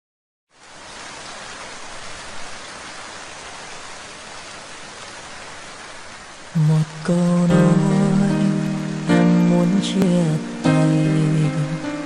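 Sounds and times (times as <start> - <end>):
steady rain falling: 0.5 - 12.0.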